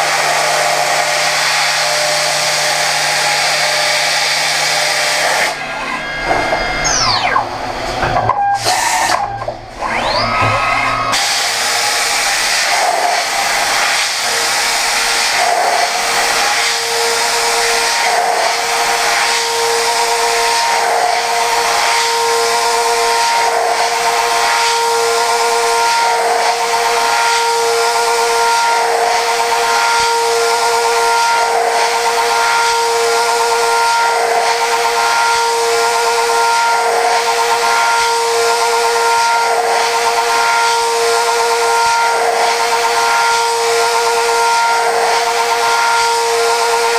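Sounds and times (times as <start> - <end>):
milling machine cutting steel: 0.0 - 46.9.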